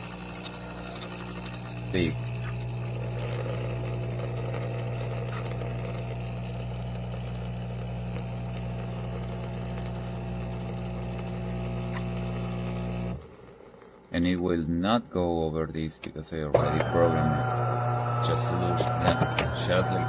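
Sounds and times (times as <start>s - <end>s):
espresso machine frothing milk: 0.0s - 20.0s.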